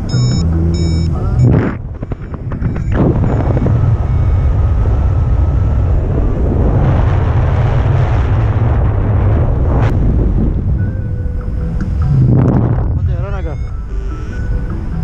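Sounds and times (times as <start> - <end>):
wind rumbling on microphone: 1.2 - 15.0.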